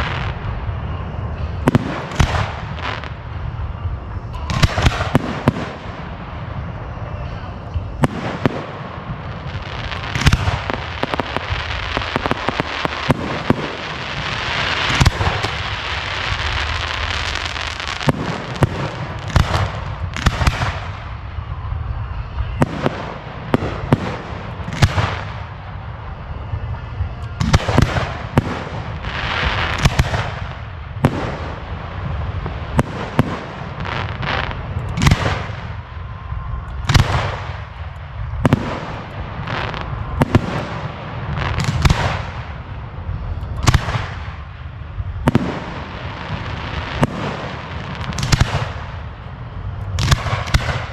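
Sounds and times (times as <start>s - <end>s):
crackle and echo: 0.0s - 50.9s
firework bursts and booms: 0.0s - 50.9s.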